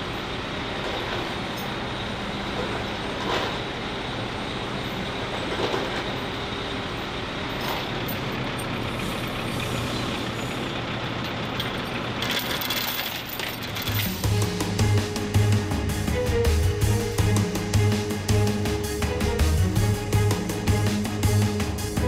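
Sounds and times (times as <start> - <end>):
aircraft engine and machinery rumble: 0.0 - 22.0.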